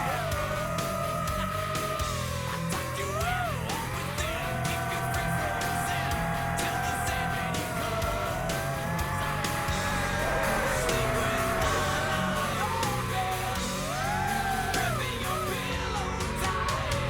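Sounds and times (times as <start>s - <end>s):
rock song with vocals: 0.0s - 17.0s.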